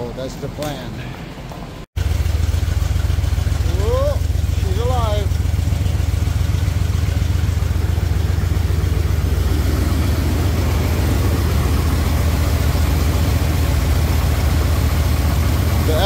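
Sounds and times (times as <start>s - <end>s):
truck engine idling: 2.0s - 16.0s.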